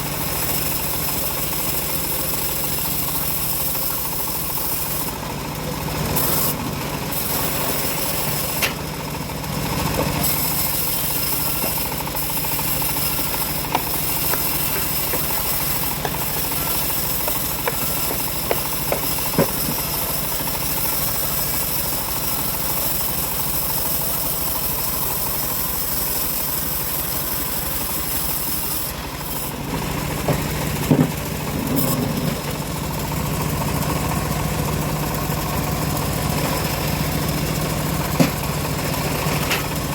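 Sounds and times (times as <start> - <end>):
bandsaw mill droning: 0.0 - 39.9.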